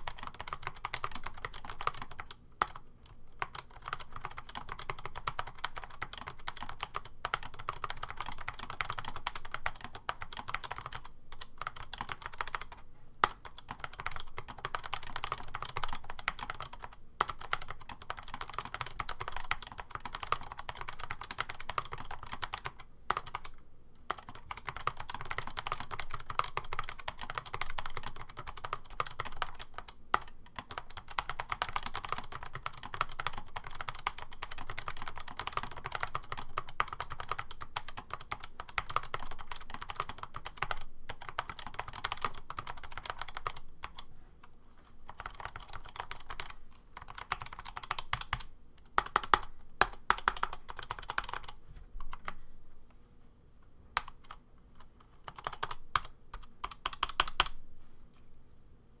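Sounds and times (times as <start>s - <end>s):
keyboard typing: 0.0s - 44.1s, 45.0s - 52.5s, 53.9s - 57.6s.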